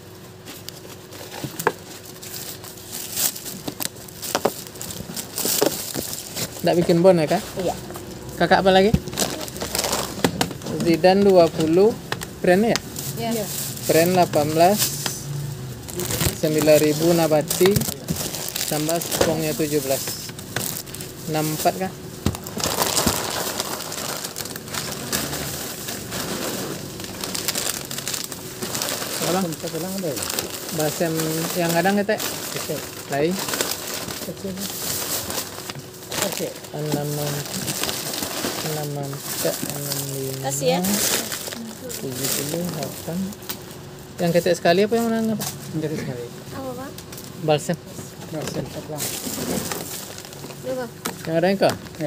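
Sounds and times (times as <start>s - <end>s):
plastic bags crinkling: 0.3s - 45.8s, 48.3s - 52.0s.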